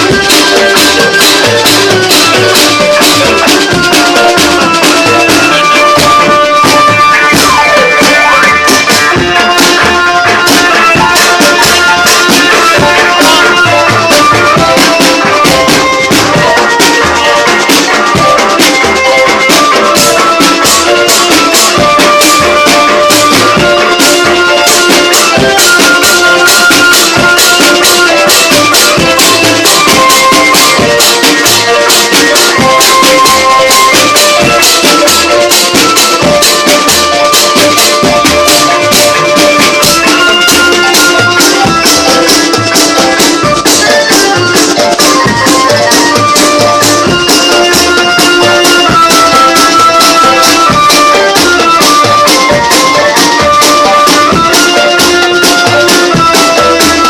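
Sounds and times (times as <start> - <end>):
melody of held notes: 0.0 - 57.0
quick rattling percussion: 0.0 - 57.0.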